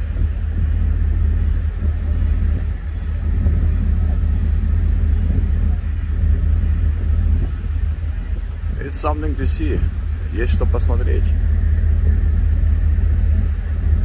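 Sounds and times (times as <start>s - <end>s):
ship engines droning: 0.0s - 14.0s
wind buffeting microphone: 0.0s - 14.0s.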